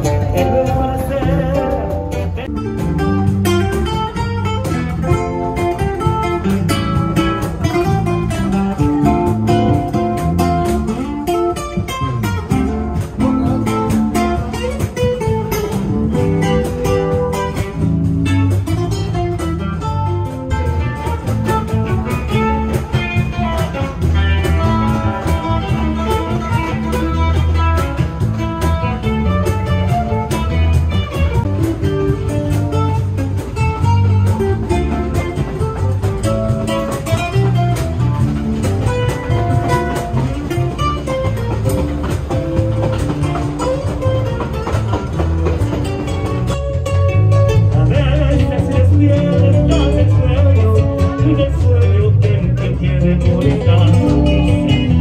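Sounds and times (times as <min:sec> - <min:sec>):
acoustic guitar playing: 0:00.0 - 0:55.0
electric bass guitar: 0:00.0 - 0:55.0.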